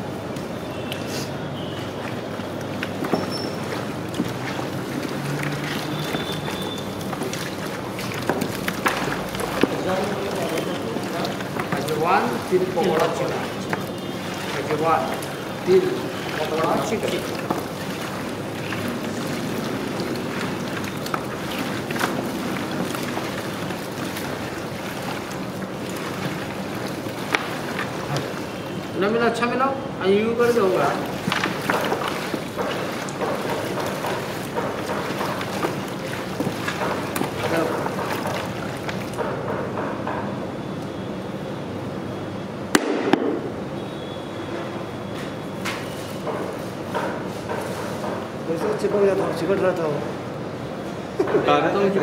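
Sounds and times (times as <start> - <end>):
wet squelches of hand mixing meat: 0.0 - 40.0, 44.9 - 52.0
steady noisy background: 0.0 - 52.0.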